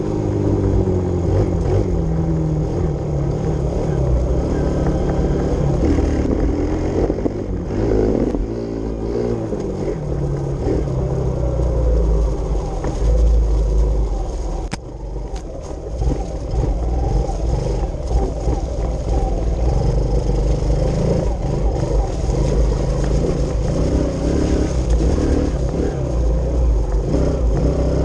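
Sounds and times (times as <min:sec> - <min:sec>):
pit bike engine revving: 0:00.0 - 0:11.6, 0:15.9 - 0:28.0.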